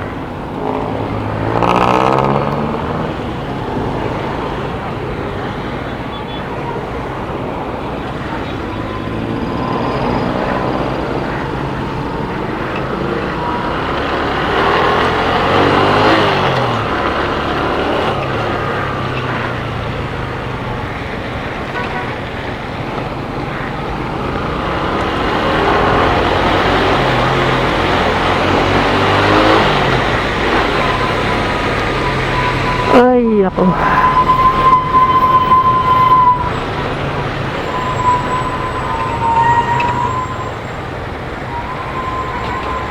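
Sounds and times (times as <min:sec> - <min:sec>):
road and traffic noise: 0:00.0 - 0:42.9.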